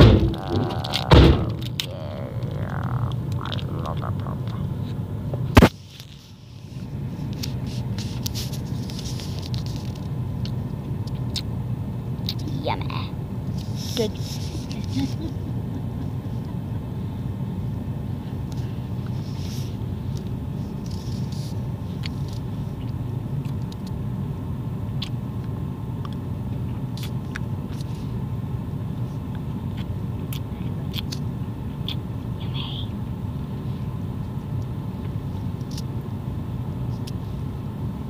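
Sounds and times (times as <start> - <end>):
van rumble from inside cabin: 0.0 - 38.0.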